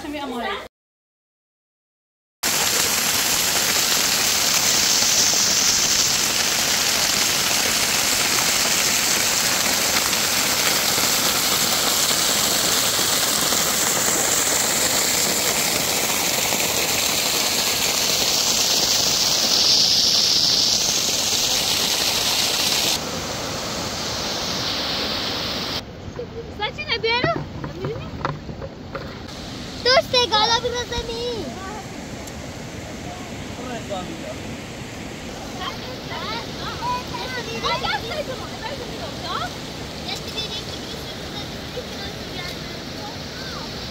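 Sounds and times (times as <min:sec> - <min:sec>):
water rushing down concrete channel: 0:02.4 - 0:25.8, 0:26.6 - 0:34.5, 0:35.2 - 0:43.9.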